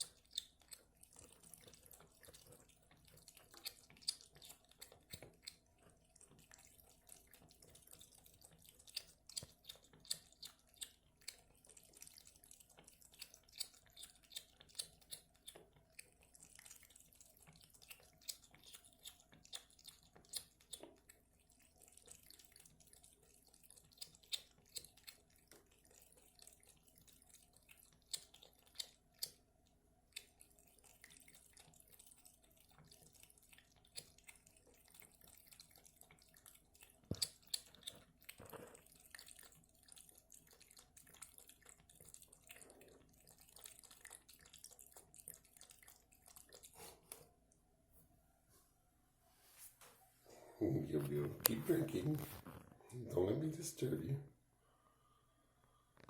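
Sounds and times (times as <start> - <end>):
cat lapping water: 0.0 - 47.8, 50.3 - 54.4.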